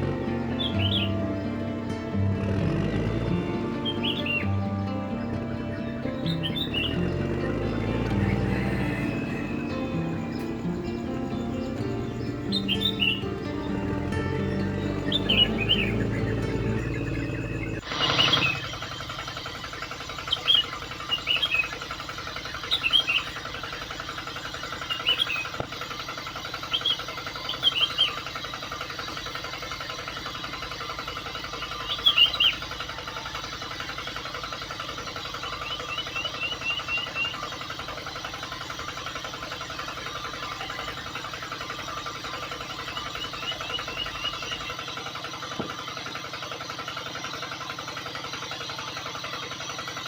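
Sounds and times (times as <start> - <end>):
high bird-like chirps: 0.0 - 45.0.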